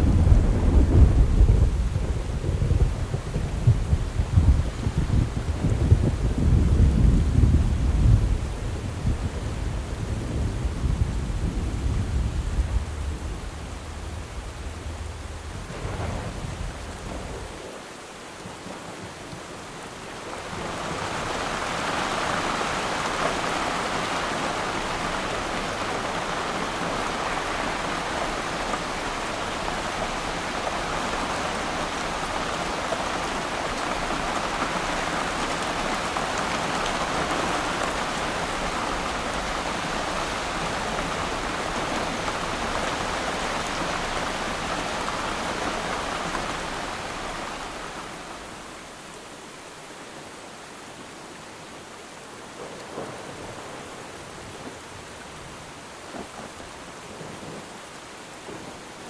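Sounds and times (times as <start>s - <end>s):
rain falling on water: 0.0s - 59.0s.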